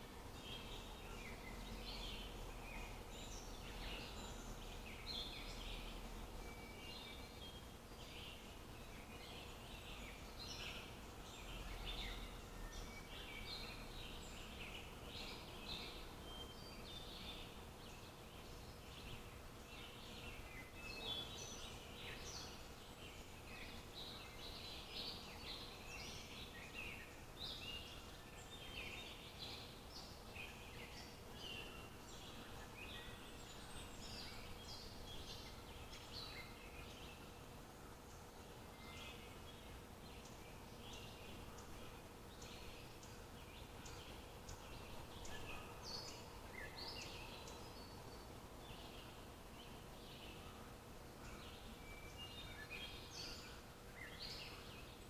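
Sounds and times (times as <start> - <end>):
faint steady hum: 0.0 - 55.0
wild birds chirping: 0.0 - 55.0.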